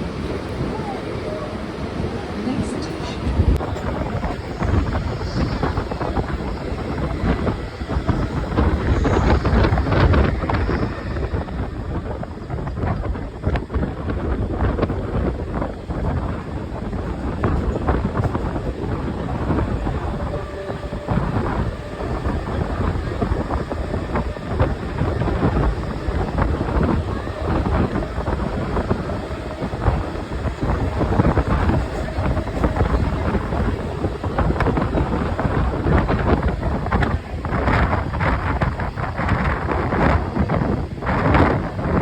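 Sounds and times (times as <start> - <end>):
train rumbling: 0.0 - 42.0
wind on microphone: 0.0 - 42.0.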